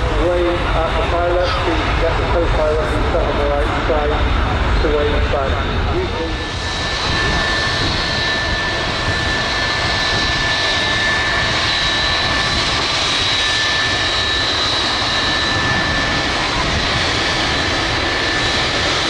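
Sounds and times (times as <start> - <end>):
jet engines rushing and whining: 0.0 - 19.0.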